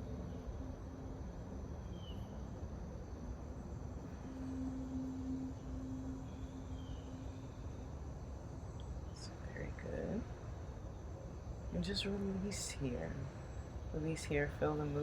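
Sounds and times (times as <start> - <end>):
crickets and insects chirping: 0.0 - 15.0
low steady hum: 0.0 - 15.0.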